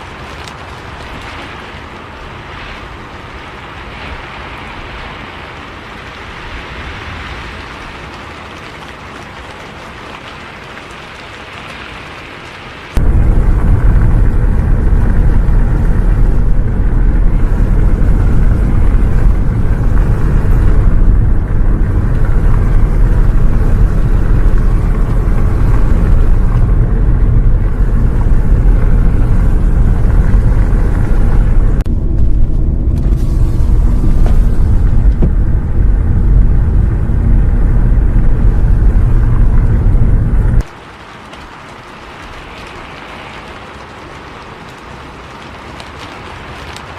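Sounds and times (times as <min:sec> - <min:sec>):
bus engine and road rumble: 0:00.0 - 0:40.8.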